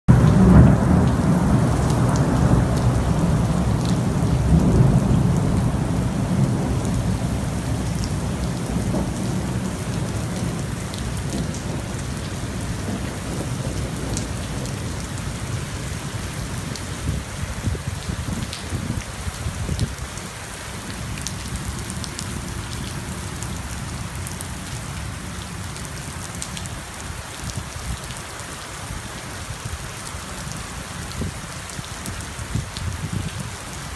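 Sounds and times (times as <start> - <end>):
hail and heavy rain: 0.1 - 33.9.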